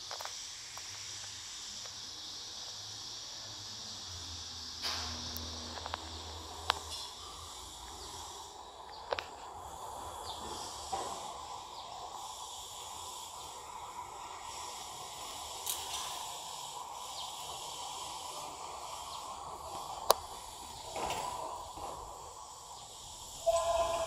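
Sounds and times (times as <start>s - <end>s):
insects hissing: 0.0s - 24.0s.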